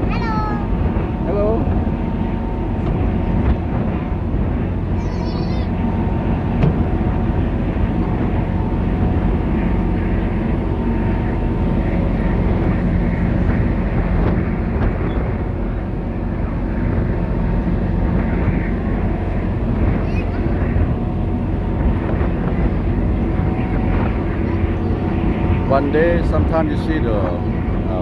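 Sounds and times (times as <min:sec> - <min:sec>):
ferry diesel engines droning: 0:00.0 - 0:28.0.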